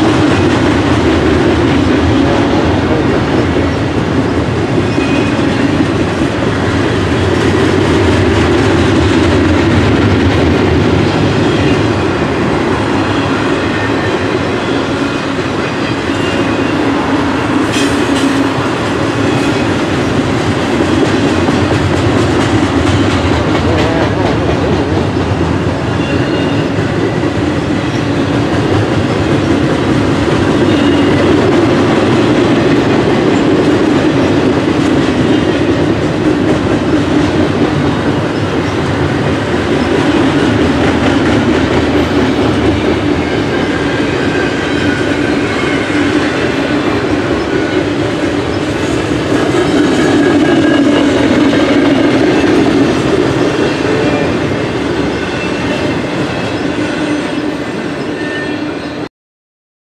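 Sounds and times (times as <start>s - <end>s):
steel train wheels rumbling on rail: 0.0s - 59.1s.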